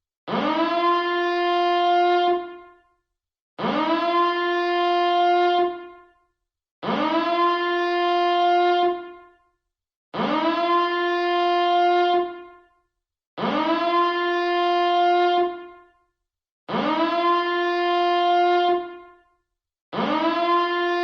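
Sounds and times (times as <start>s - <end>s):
buzzy alarm horn blasts: 0.3s - 3.0s, 3.6s - 6.2s, 6.8s - 9.5s, 10.2s - 12.8s, 13.4s - 16.0s, 16.7s - 19.3s, 19.9s - 21.0s.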